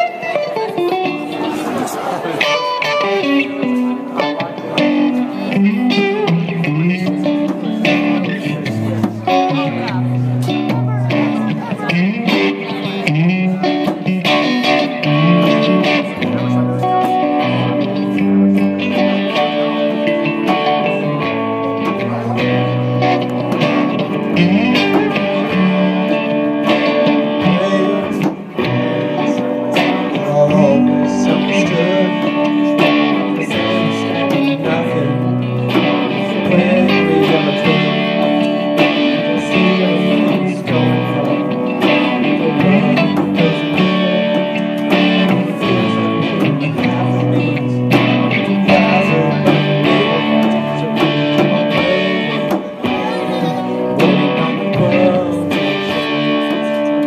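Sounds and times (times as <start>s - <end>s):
live band music led by guitar: 0.0s - 57.0s.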